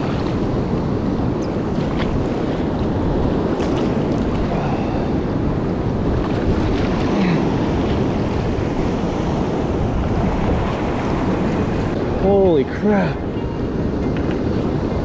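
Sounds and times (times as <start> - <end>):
river water rushing: 0.0 - 15.0
wind on microphone: 0.0 - 15.0.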